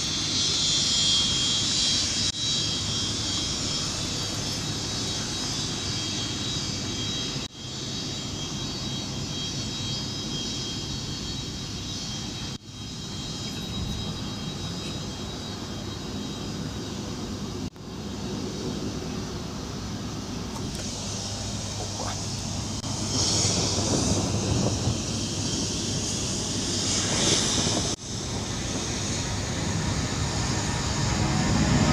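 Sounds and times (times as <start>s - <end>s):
jet engines whining: 0.0s - 31.9s.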